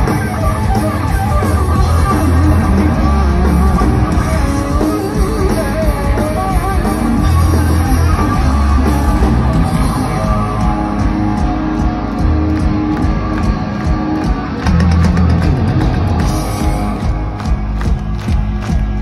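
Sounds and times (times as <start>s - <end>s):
crowd clapping along: 0.0s - 19.0s
heavy metal band playing: 0.0s - 19.0s.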